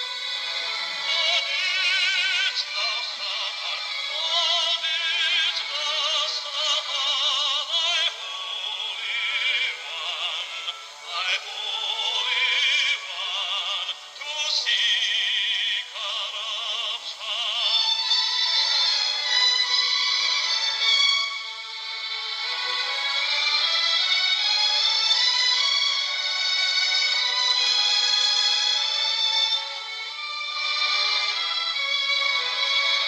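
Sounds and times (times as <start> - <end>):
background music: 0.0 - 33.0
person singing with heavy vibrato: 0.0 - 33.0.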